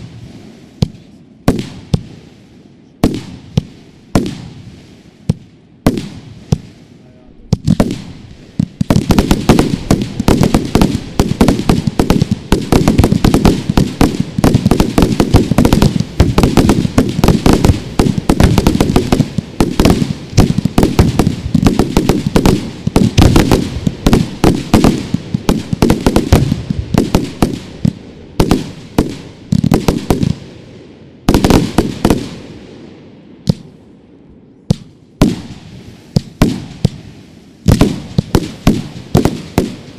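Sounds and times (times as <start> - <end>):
fireworks cracks and bangs: 0.0 - 2.4, 3.0 - 6.8, 7.5 - 30.5, 31.2 - 32.6, 33.4 - 33.7, 34.7 - 39.9.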